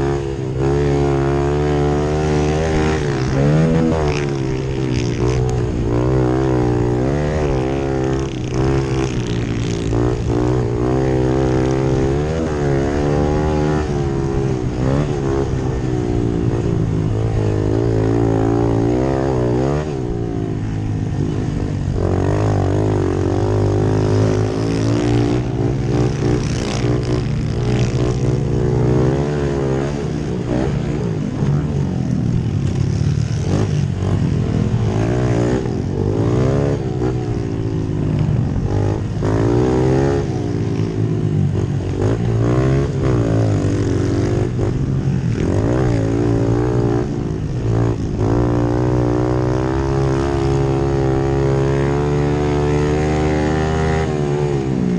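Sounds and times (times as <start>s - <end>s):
pit bike engines revving: 0.0s - 54.9s.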